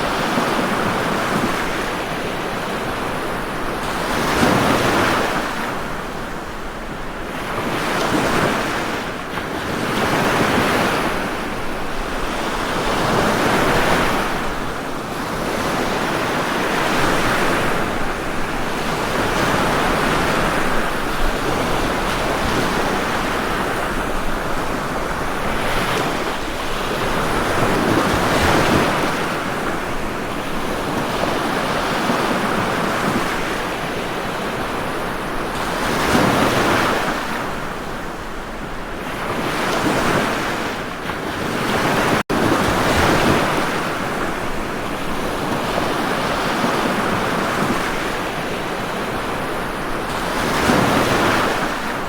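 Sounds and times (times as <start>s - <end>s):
waves breaking ashore: 0.0s - 52.0s.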